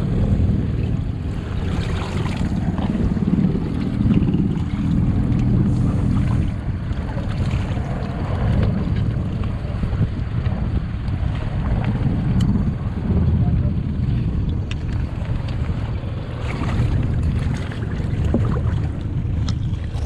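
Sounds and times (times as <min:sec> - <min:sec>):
outboard motor running: 0:00.0 - 0:20.0
water rushing against hull: 0:00.0 - 0:20.0
wind buffeting microphone: 0:00.0 - 0:20.0.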